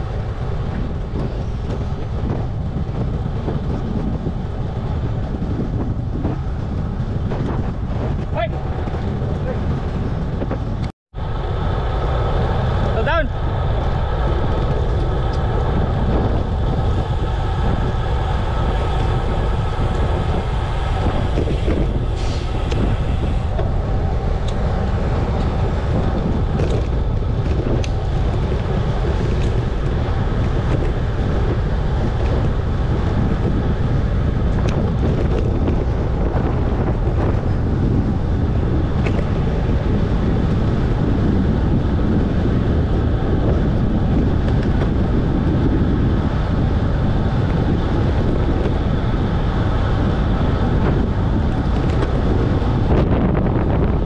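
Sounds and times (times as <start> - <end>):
wind rush on microphone: 0.0 - 54.0.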